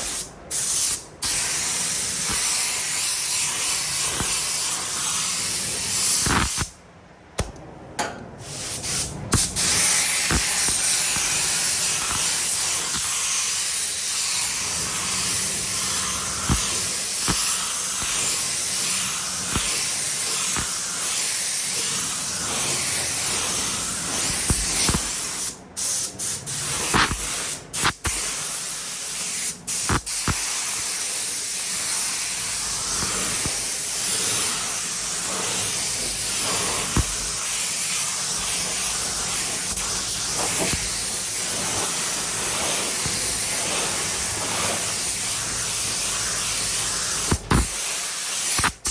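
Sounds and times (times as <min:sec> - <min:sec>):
paint spray gun hissing: 0:00.0 - 0:06.7, 0:08.5 - 0:48.9.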